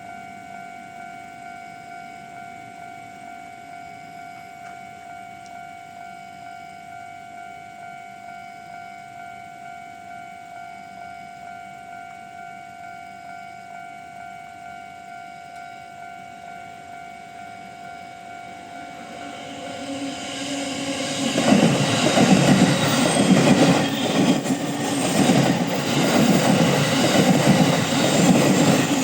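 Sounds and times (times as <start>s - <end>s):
level-crossing alarm ringing: 0.0s - 29.0s.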